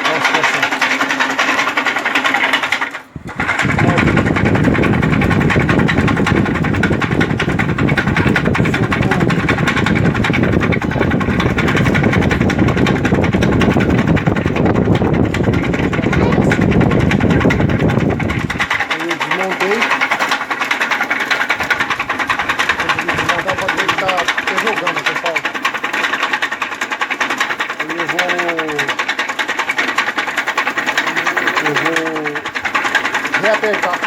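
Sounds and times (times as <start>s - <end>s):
air conditioner blower knocking: 0.0s - 34.0s.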